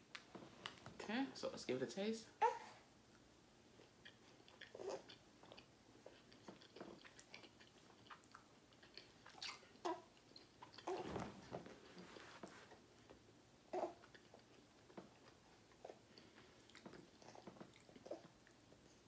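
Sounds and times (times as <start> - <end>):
faint chewing: 3.1 - 19.0.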